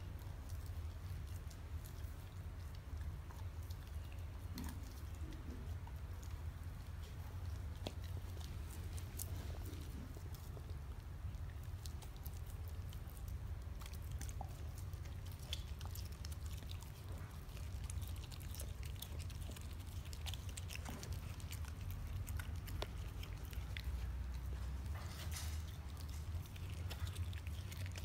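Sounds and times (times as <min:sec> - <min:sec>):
dog chewing and gnawing meat: 0:00.0 - 0:28.0
steady low hum: 0:00.0 - 0:28.0
teeth clicks and mouth smacks: 0:00.4 - 0:24.4.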